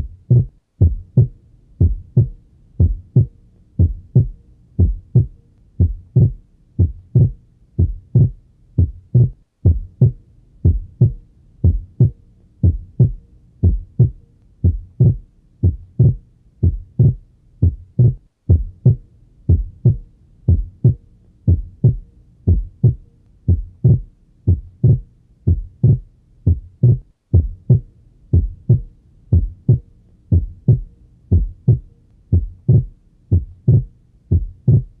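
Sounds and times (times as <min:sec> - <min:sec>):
heartbeat lub-dub thuds: 0:00.0 - 0:35.0.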